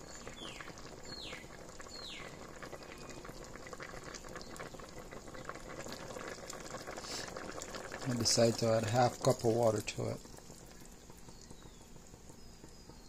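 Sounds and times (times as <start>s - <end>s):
soup bubbling in a pot: 0.0s - 13.0s.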